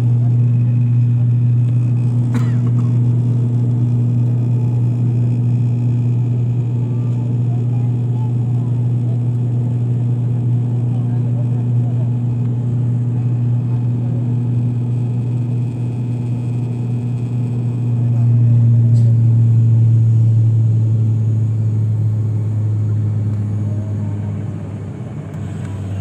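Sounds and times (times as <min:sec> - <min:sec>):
propeller engines droning: 0:00.0 - 0:26.0.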